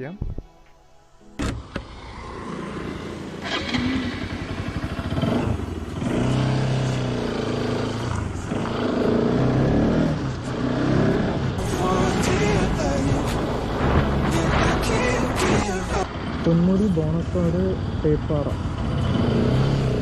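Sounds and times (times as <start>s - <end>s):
road and wind noise: 1.4s - 20.0s
motorcycle engine accelerating: 1.5s - 20.0s.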